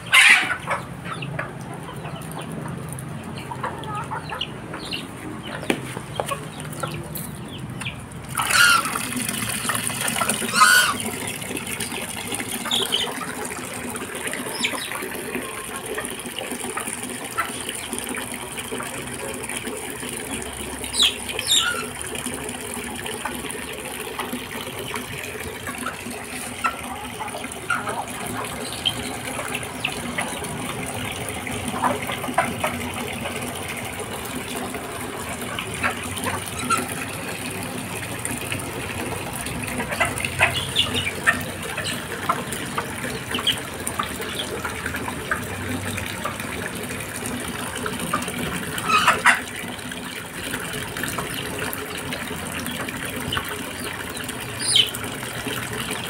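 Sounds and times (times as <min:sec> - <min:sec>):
water gushing from hose into tub: 0:00.0 - 0:07.5, 0:08.1 - 0:56.0
chickens and ducks calling: 0:00.0 - 0:56.0.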